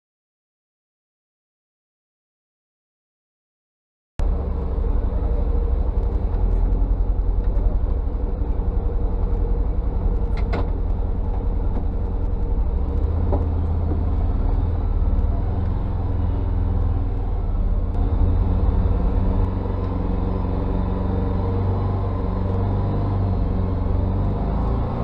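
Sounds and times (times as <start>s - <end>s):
utility vehicle engine running: 4.2s - 25.0s.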